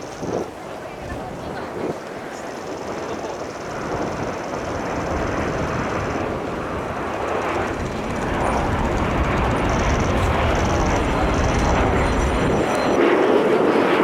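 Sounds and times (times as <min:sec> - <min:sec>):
jets flying over: 0:00.0 - 0:14.0.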